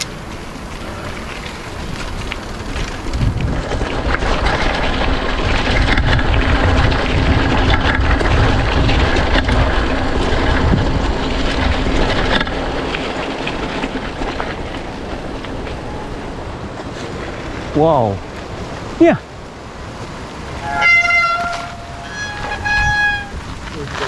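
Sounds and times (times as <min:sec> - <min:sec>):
bike rattling over stones: 0:00.0 - 0:24.0
bike tyres crunching on stones: 0:00.0 - 0:24.0
wind buffeting microphone: 0:00.0 - 0:24.0.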